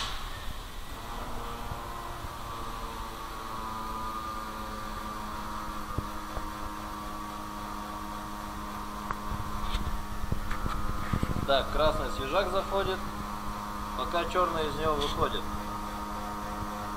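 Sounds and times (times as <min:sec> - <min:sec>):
machine humming: 0:00.0 - 0:16.9.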